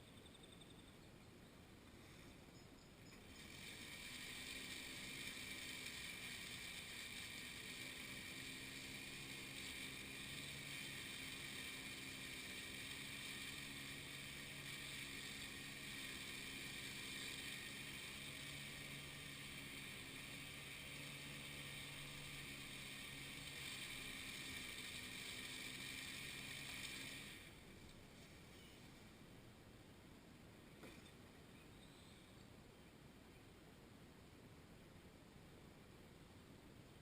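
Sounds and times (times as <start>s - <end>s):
faint engine humming: 0.0s - 33.8s.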